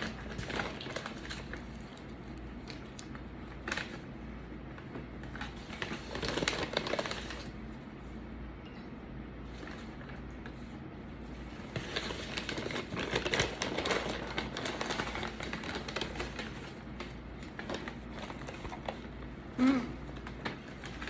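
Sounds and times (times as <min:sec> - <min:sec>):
paper wrapping crinkling: 0:00.0 - 0:04.1, 0:04.8 - 0:07.6, 0:09.5 - 0:21.0.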